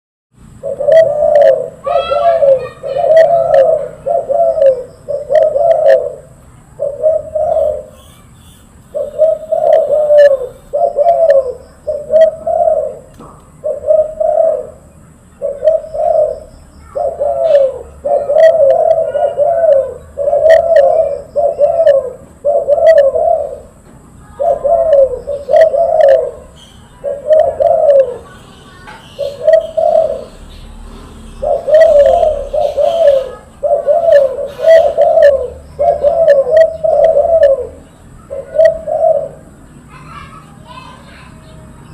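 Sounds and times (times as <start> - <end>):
dove cooing: 0.5 - 8.2, 8.9 - 40.9.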